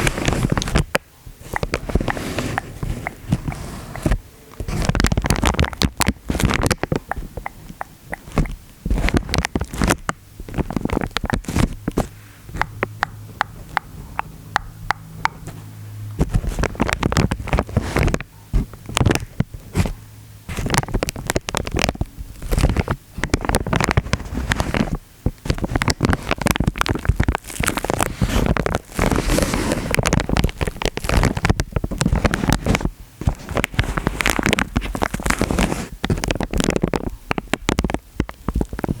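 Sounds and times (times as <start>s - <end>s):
low steady hum: 0.0s - 39.0s
small clicks and crackles: 0.0s - 39.0s.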